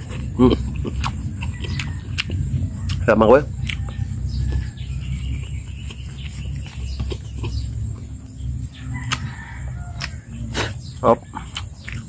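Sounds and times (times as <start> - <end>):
chewing and lip smacks: 0.0 - 12.0
steady low rumble: 0.0 - 12.0.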